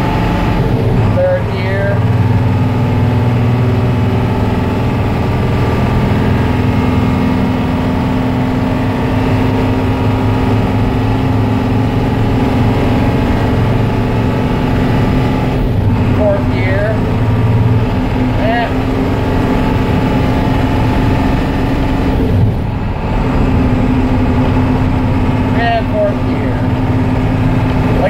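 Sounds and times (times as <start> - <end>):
bus engine and transmission running: 0.0 - 28.0.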